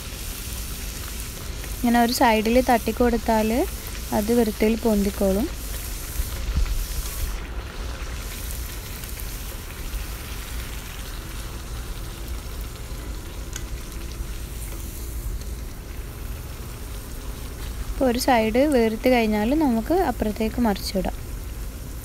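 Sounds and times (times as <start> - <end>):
oil sizzling and crackling: 0.0 - 22.0.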